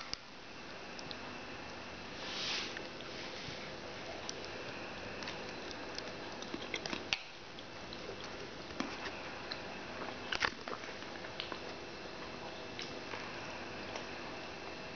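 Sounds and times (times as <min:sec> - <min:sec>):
steady background hiss: 0:00.0 - 0:14.9.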